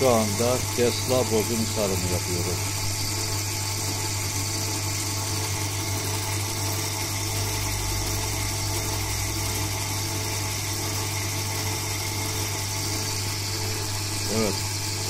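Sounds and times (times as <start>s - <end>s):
coil-winding machine humming: 0.0s - 15.0s.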